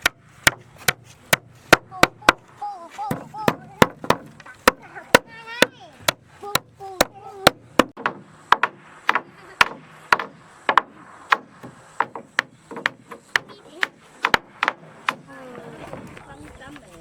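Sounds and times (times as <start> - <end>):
sharp blows on wood: 0.0 - 15.4.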